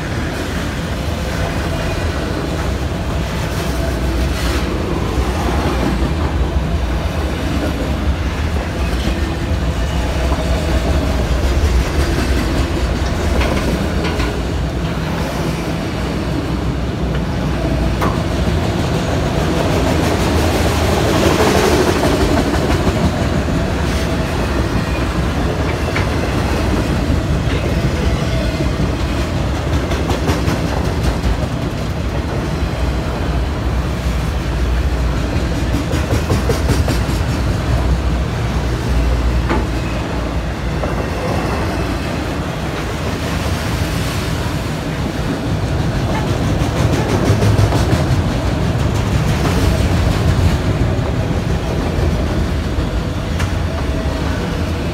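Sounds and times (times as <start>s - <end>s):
freight train rumbling past: 0.0s - 54.9s
wheels clacking over rail joints: 0.2s - 15.7s, 17.0s - 54.9s.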